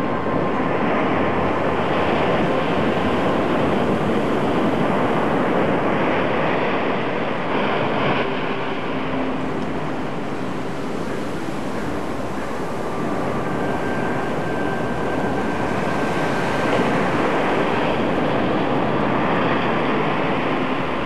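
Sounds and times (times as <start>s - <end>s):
surf breaking on beach: 0.8s - 21.0s.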